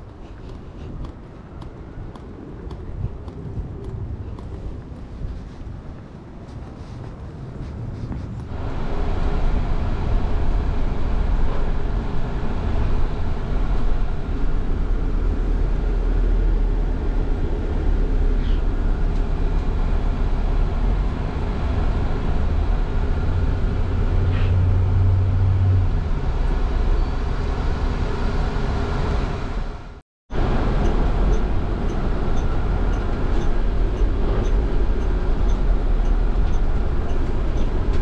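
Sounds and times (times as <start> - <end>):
vehicle rumbling: 0.0 - 38.0.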